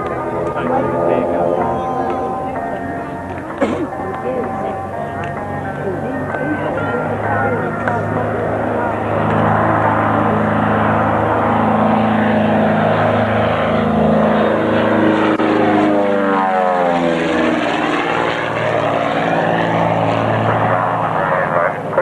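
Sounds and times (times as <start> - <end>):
propeller plane engines droning: 0.0 - 22.0.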